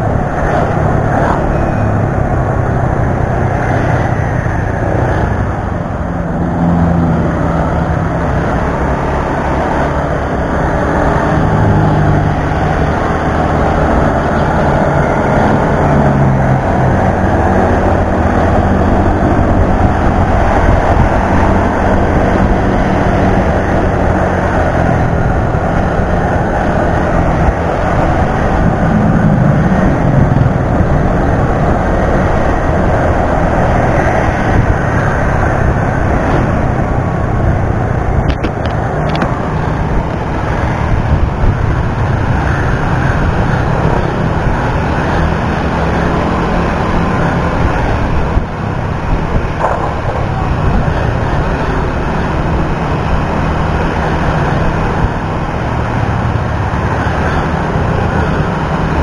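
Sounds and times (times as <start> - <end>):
road traffic: 0.0 - 59.0
wind rushing on microphone: 0.0 - 59.0.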